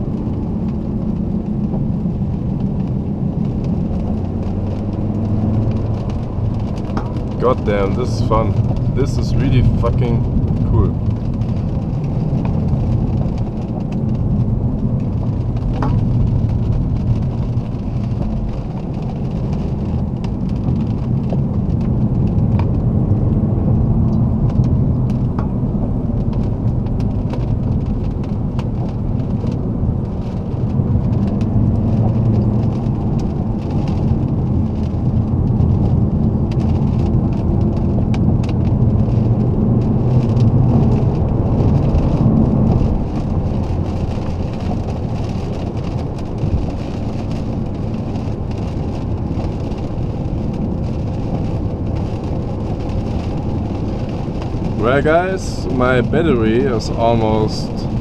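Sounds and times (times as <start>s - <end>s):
diesel engine and tyre rumble: 0.0s - 58.0s.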